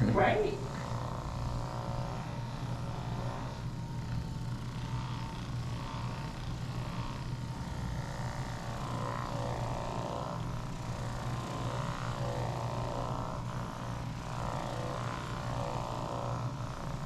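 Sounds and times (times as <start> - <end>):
massage gun buzzing: 0.0 - 17.0.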